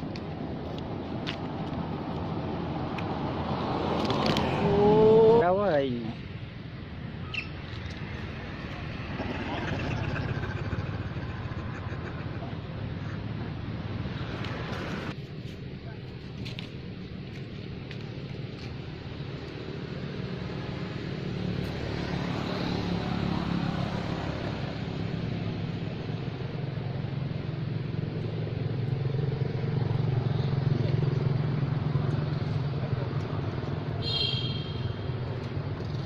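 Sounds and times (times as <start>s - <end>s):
vehicle engine rumble: 0.0s - 36.0s.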